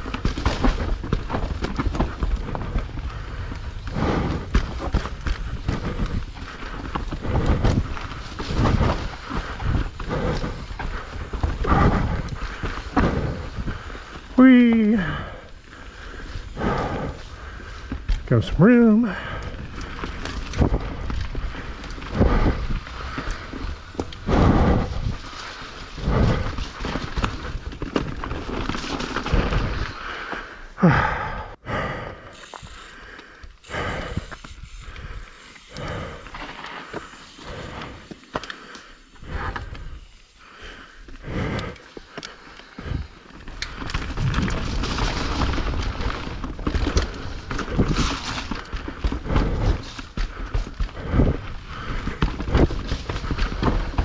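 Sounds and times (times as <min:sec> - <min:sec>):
bike thumping and rattling: 0:00.0 - 0:18.3, 0:19.4 - 0:30.0, 0:32.3 - 0:54.0
bike tyres on dirt: 0:00.0 - 0:54.0.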